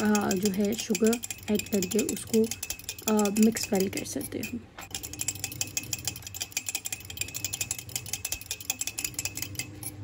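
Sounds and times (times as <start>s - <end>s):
cutlery clinking against a mug: 0.0s - 10.0s.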